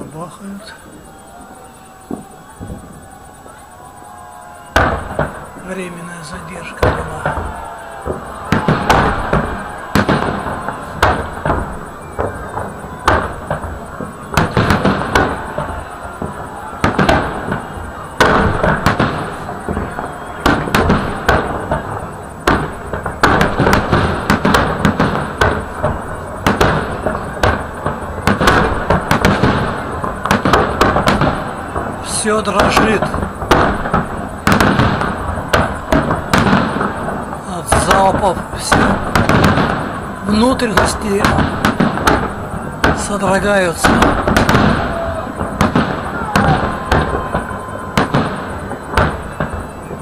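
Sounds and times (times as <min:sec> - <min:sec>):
fireworks booming bangs: 0:00.0 - 0:50.0.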